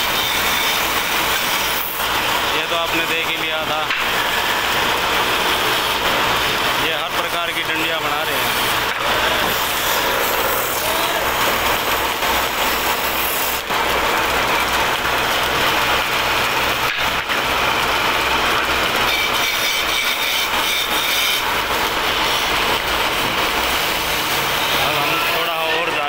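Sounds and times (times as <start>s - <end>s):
chisel scraping spinning wood: 0.0s - 3.2s, 3.8s - 25.7s
wood lathe running: 0.0s - 26.0s.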